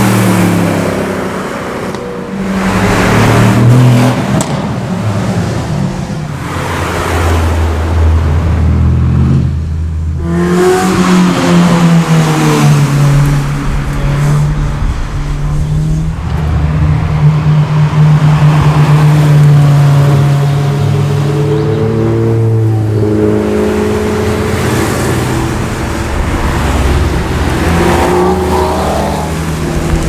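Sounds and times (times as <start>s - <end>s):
car accelerating: 0.0s - 30.0s
car engine droning: 0.0s - 30.0s.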